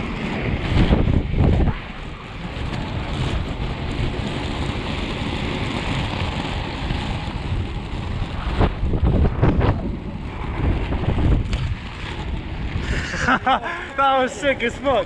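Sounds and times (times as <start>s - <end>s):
skate wheels rolling on tarmac: 0.0s - 15.0s
wind buffeting microphone: 0.0s - 15.0s.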